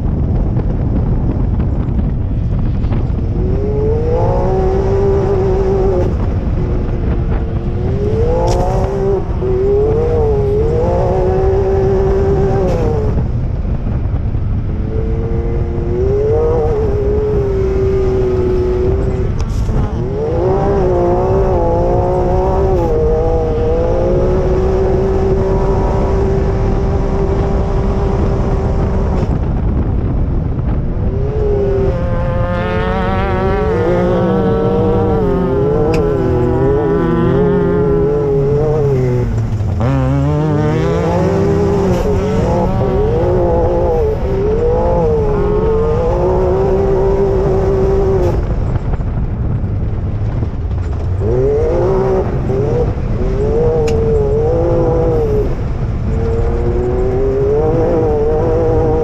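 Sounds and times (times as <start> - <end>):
heavy low rumble: 0.0 - 59.0
off-road engine revving: 0.0 - 59.0.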